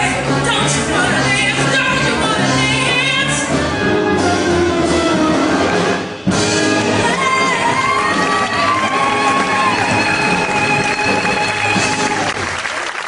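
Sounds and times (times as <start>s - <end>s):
instrumental backing music: 0.0s - 12.5s.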